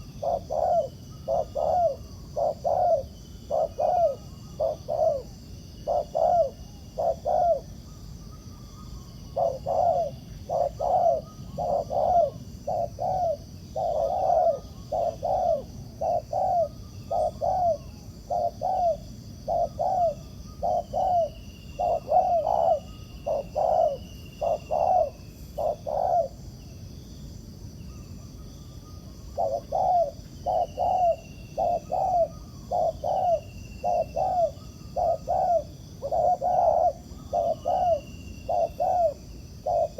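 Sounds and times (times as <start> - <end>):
doves cooing: 0.0 - 7.8, 8.6 - 26.4, 29.2 - 39.9.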